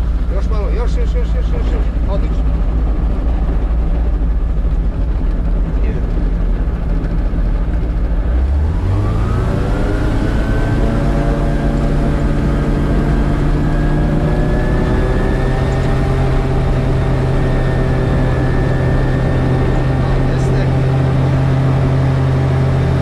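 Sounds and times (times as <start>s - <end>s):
gyrocopter engine running: 0.0s - 23.0s.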